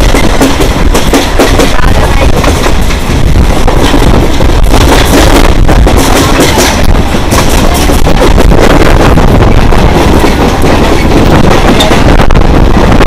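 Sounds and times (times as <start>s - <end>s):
electric train rushing: 0.0s - 13.0s
wind buffeting microphone: 0.0s - 13.0s.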